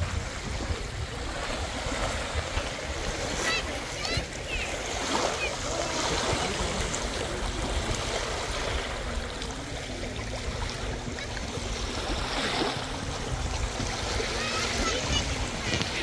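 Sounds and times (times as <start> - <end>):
waves lapping on pebble shore: 0.0 - 16.0
wind rumbling on microphone: 0.0 - 16.0.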